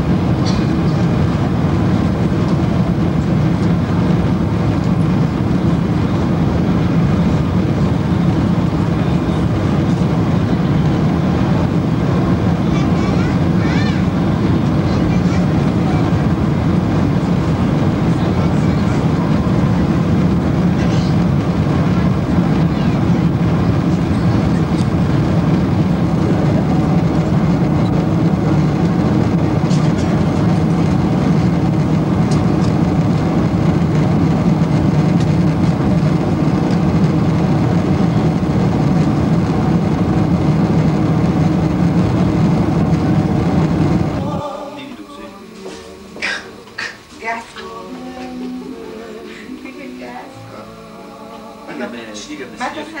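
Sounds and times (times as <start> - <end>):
airliner cabin engine din: 0.0 - 53.0.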